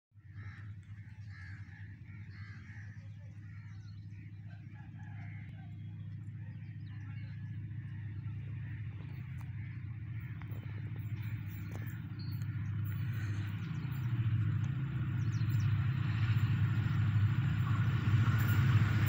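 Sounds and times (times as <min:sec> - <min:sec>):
birds chirping: 0:00.2 - 0:19.0
distant diesel locomotive rumble: 0:00.2 - 0:19.0.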